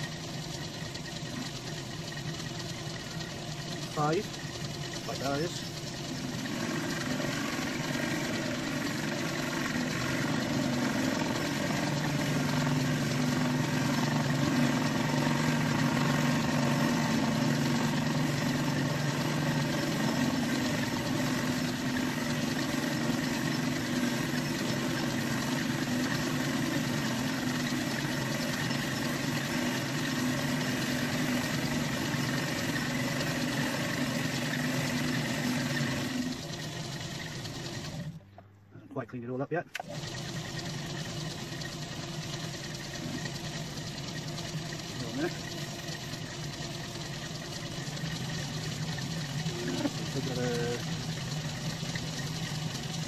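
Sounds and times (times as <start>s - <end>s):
metal lathe running: 0.0s - 38.2s, 39.8s - 53.0s.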